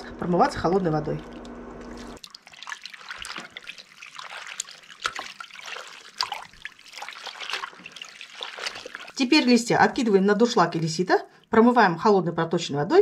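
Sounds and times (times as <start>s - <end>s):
water splashing in a basin: 1.0s - 11.5s.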